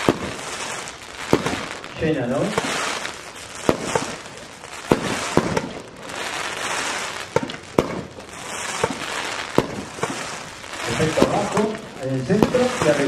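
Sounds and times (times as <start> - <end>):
firework shells bursting: 0.0 - 13.0
hissing crackling glitter: 0.0 - 13.0.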